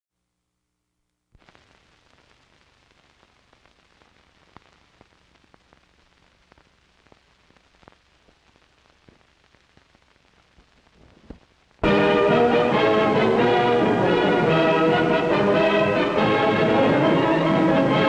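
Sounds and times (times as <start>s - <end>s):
film soundtrack hiss with crackles: 0.2s - 18.0s.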